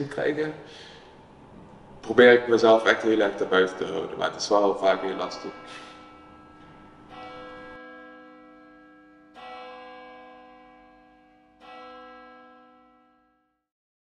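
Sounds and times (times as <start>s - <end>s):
ringing chords: 0.6s - 13.6s.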